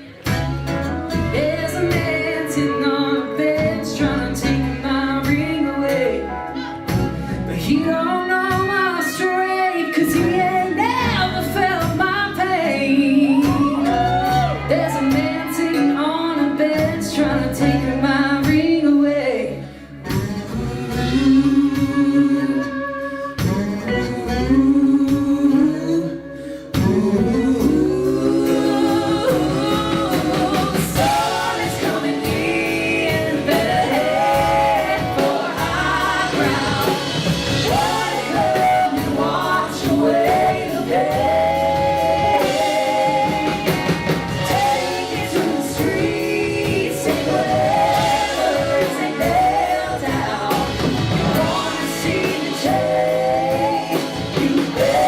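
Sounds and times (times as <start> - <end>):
live band playing: 0.0 - 55.0.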